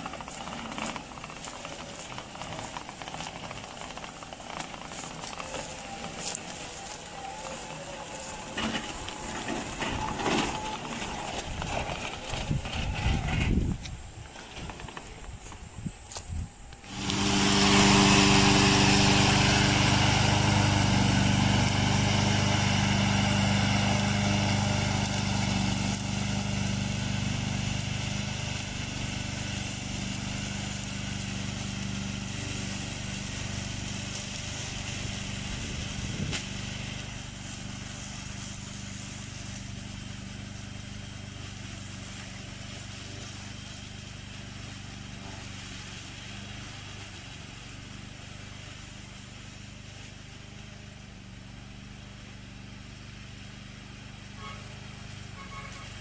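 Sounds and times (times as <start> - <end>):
mower engine running: 0.0 - 56.0.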